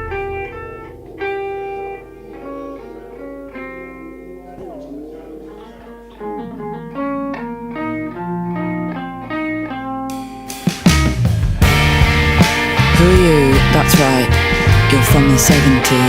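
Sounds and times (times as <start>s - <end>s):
guitar picking single notes: 0.0s - 16.0s.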